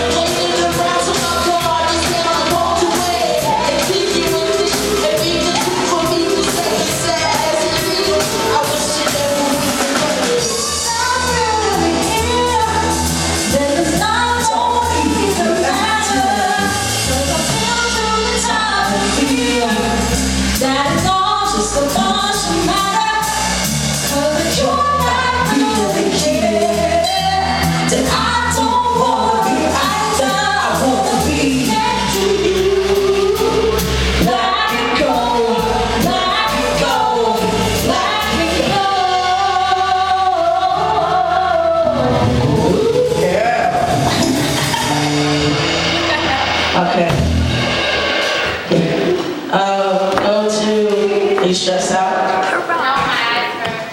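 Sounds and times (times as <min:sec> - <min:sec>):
person singing: 0:00.0 - 0:23.5, 0:24.1 - 0:47.1
music with beat and bass: 0:00.0 - 0:49.5.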